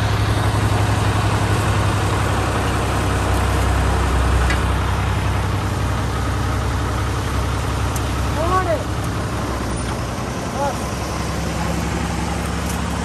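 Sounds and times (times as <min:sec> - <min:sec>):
diesel engine humming: 0:00.0 - 0:13.0
thresher mechanical rush: 0:00.0 - 0:13.0.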